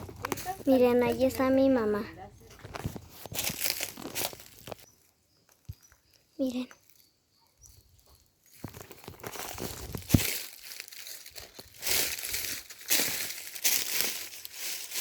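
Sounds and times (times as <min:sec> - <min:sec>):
footsteps crunching dry leaves: 0:00.0 - 0:06.0, 0:08.4 - 0:15.0.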